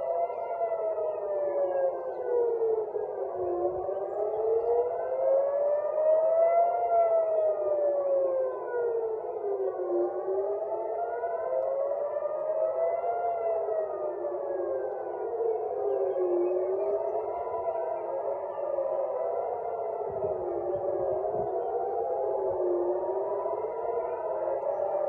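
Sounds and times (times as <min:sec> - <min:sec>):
air-raid sirens wailing: 0:00.0 - 0:25.0.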